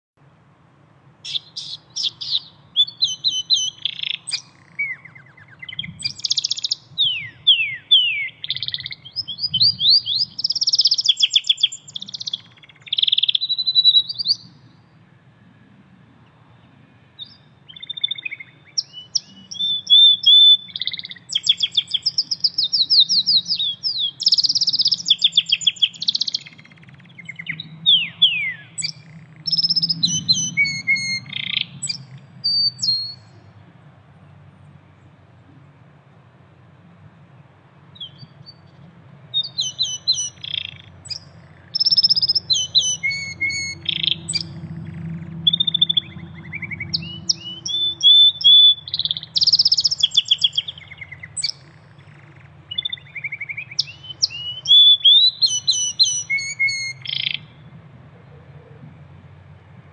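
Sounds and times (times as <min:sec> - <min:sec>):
canary singing trills: 0:01.2 - 0:15.0, 0:16.6 - 0:33.7, 0:38.0 - 0:59.5.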